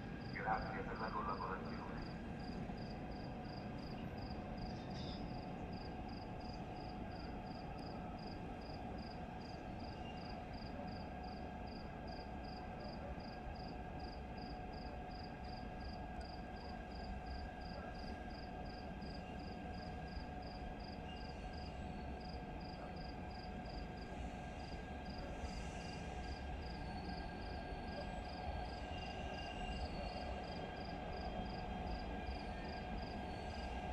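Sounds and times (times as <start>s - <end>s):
cricket chirping: 0.2s - 33.9s.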